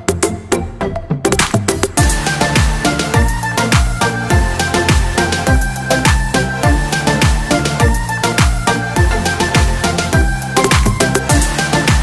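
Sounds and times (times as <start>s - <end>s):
electronic music: 0.0s - 12.0s
deep kick drums: 2.0s - 12.0s.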